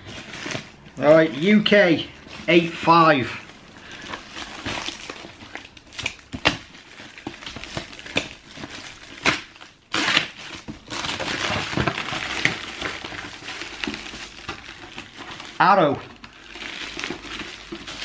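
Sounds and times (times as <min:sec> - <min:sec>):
tissue paper crinkling: 0:00.0 - 0:18.0.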